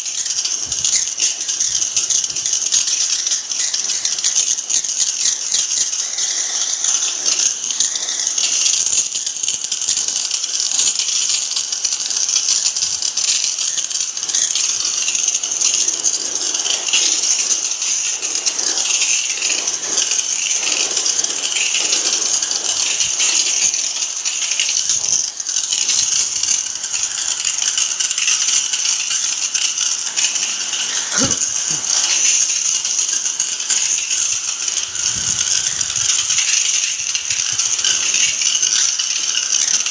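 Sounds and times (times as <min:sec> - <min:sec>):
high-pressure water spray: 0:00.0 - 0:39.9.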